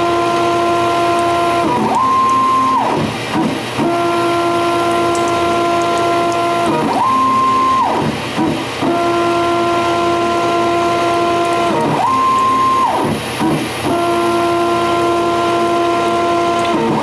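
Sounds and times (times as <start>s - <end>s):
high whine with pitch ramps: 0.0s - 17.0s
stepper motors whining: 0.0s - 17.0s.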